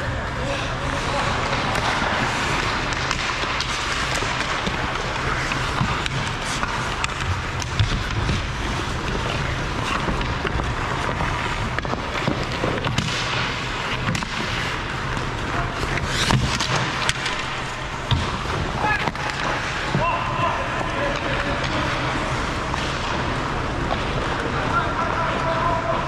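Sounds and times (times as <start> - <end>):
hockey sticks and puck clacking: 0.0 - 26.0
skates scraping on ice: 0.0 - 26.0.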